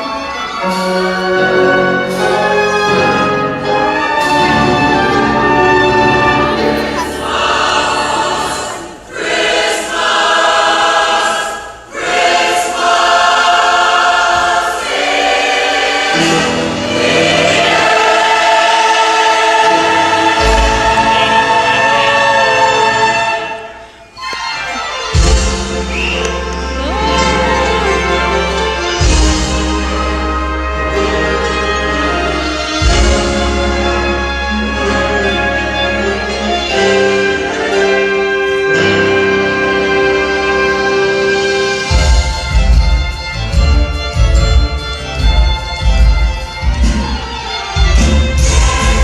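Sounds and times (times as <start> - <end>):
instrumental accompaniment: 0.0 - 10.2, 12.0 - 49.0
choir singing: 0.0 - 45.9, 46.6 - 49.0.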